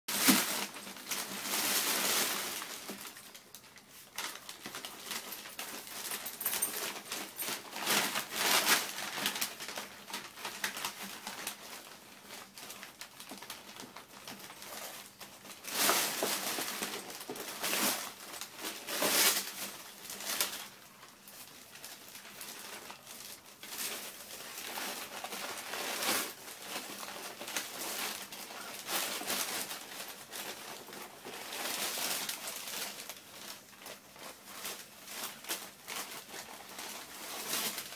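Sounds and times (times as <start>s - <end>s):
wrapping paper crinkling and rustling: 0.1s - 37.9s.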